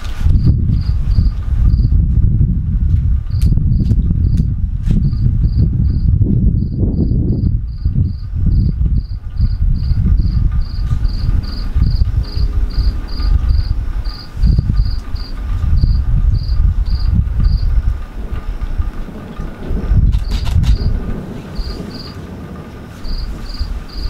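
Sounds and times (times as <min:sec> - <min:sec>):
low rumble: 0:00.0 - 0:24.0
crickets chirping: 0:00.3 - 0:02.0, 0:03.3 - 0:17.8, 0:19.8 - 0:24.0.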